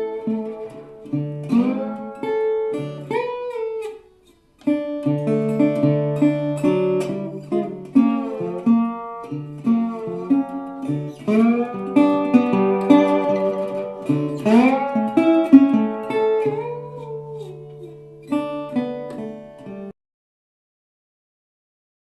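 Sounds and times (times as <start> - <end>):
slide guitar music on radio: 0.0 - 19.9.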